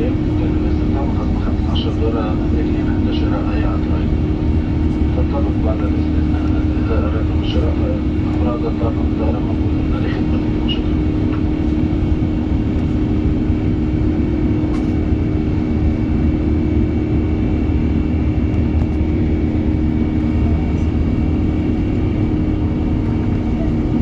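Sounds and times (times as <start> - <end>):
airliner cabin rumble: 0.0 - 24.0
low cabin hum: 0.0 - 24.0.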